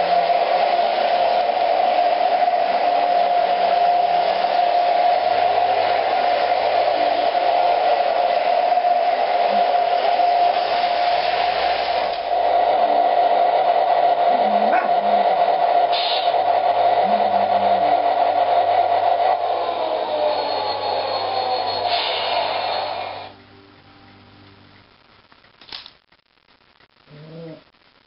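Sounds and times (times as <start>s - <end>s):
model train motor whine: 0.0s - 23.4s.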